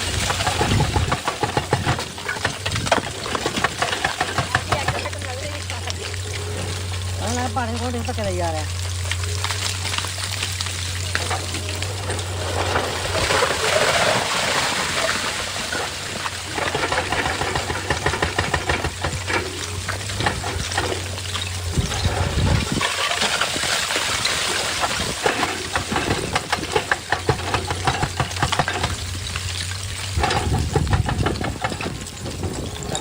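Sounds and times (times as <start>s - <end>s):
excavator engine humming: 0.0s - 33.0s
rock and gravel clattering: 0.0s - 33.0s.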